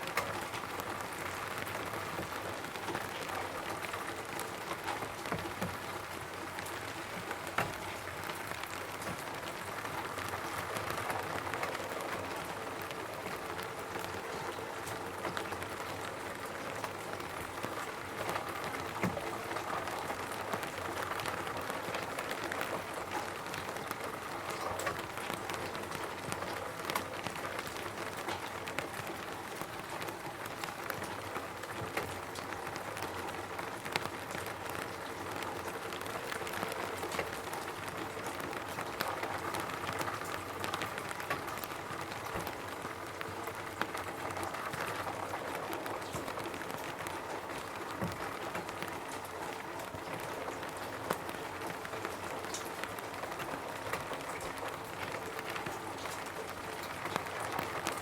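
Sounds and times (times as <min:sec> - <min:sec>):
rain pattering on a roof: 0:00.0 - 0:58.0.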